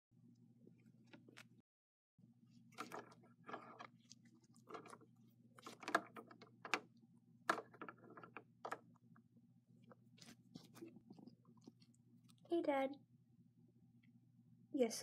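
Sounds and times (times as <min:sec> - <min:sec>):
low steady hum: 0:02.2 - 0:15.0.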